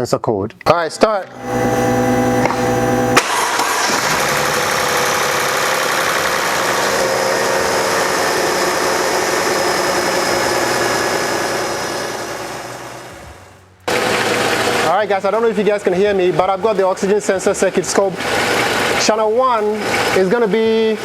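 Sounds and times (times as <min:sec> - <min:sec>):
car engine starting and idling: 0:00.5 - 0:21.0.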